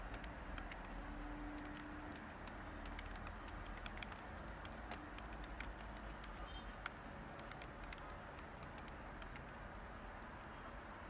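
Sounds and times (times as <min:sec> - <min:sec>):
computer keyboard typing: 0:00.0 - 0:09.6.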